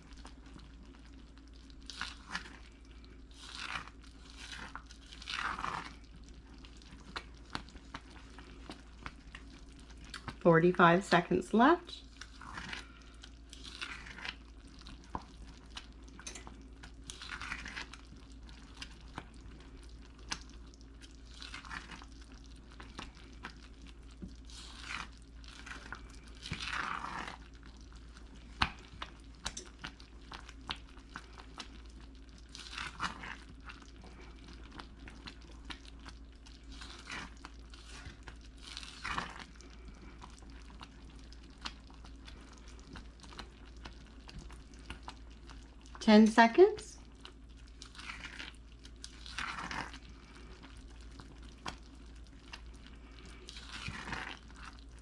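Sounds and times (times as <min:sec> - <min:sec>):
bubbling mixture popping: 0:00.0 - 0:55.0.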